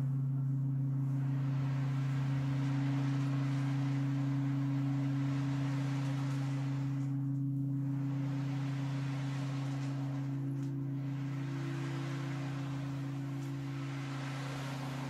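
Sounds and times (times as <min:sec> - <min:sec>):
singing bowls drone: 0:00.0 - 0:15.0
ocean drum shushing: 0:00.9 - 0:15.0.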